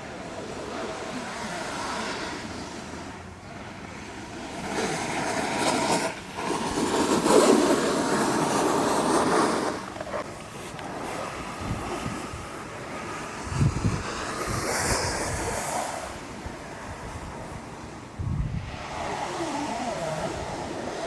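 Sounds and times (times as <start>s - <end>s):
snowboard scraping over snow: 0.0s - 21.0s.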